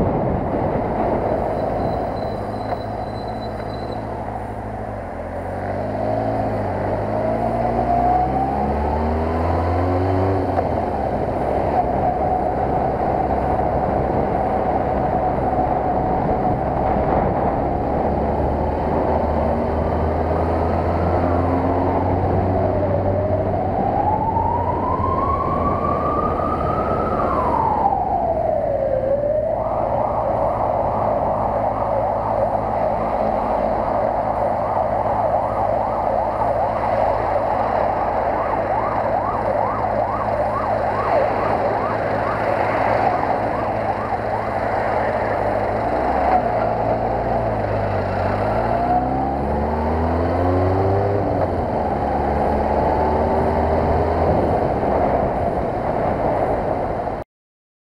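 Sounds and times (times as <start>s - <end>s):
road noise: 0.0s - 57.2s
emergency siren wailing and yelping: 7.0s - 54.9s.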